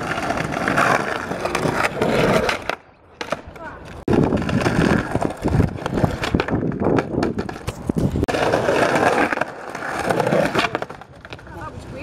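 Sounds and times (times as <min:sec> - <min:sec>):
skateboard wheels rumbling on paving: 0:00.0 - 0:12.0.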